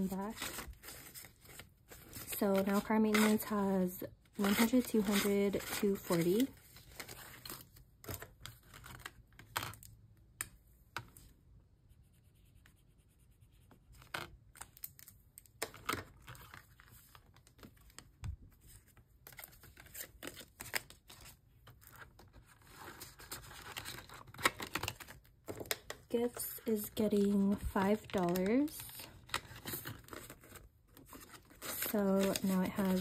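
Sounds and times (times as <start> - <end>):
paper and plastic rustling: 0.0 - 3.7, 4.3 - 9.8, 15.6 - 33.0.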